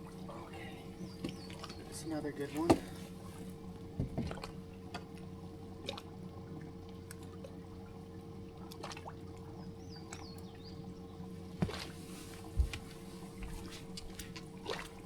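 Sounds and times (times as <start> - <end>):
water trickling and splashing: 0.1 - 10.6, 11.4 - 15.0.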